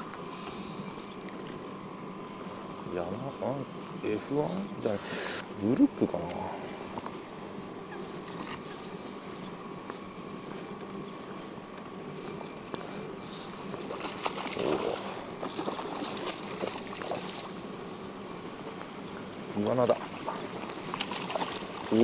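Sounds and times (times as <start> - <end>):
fishing reel whirring and clicking: 0.0 - 22.0.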